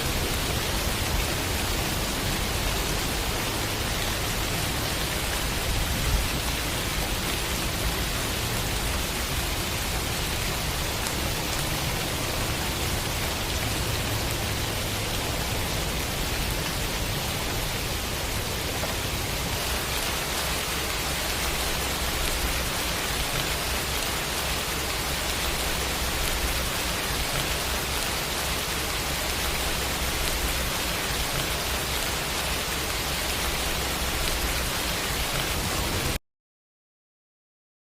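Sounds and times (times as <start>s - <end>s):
steady rain falling: 0.0s - 36.2s.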